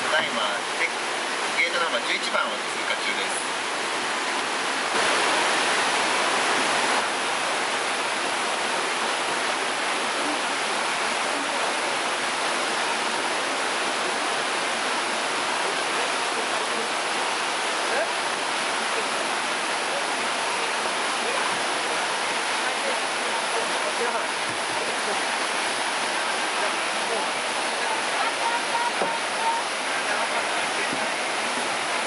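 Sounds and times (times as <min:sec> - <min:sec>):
whitewater rapids rushing: 0:00.0 - 0:32.0.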